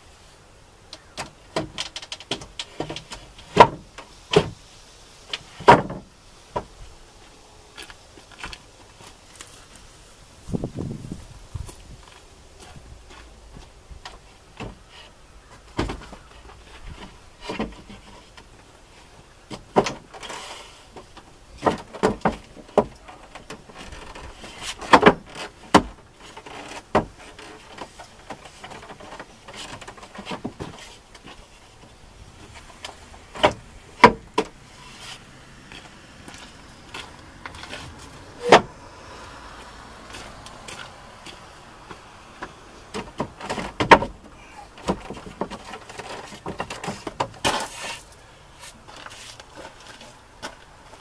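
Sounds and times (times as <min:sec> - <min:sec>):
plywood sheets knocking and scraping: 0:01.0 - 0:04.6, 0:05.3 - 0:06.8, 0:11.7 - 0:38.8, 0:40.0 - 0:51.0.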